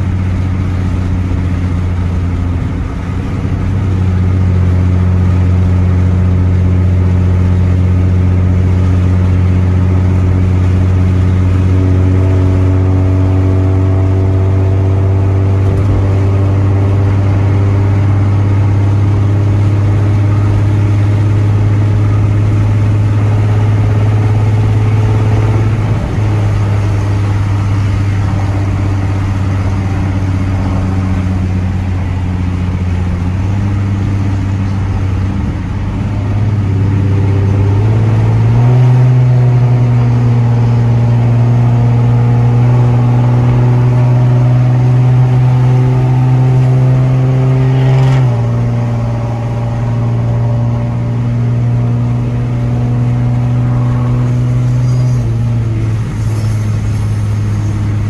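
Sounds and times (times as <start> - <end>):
loud car exhaust note: 0.0 - 58.0.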